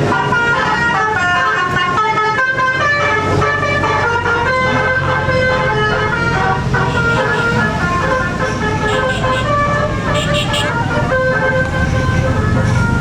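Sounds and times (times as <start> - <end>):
musical air horn tune: 1.7 - 13.0.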